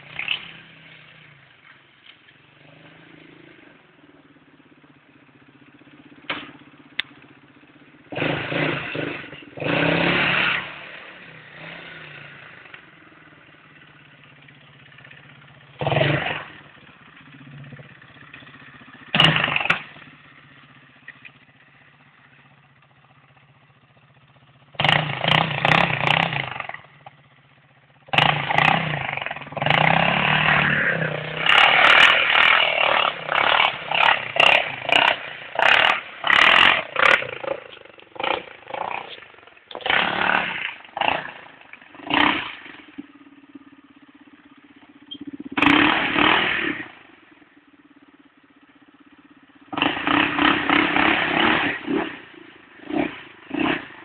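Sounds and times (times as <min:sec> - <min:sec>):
quad bike engine revving: 0:00.0 - 0:22.6, 0:23.7 - 0:47.6, 0:49.1 - 0:54.0
quad bike engine idling: 0:00.0 - 0:54.0.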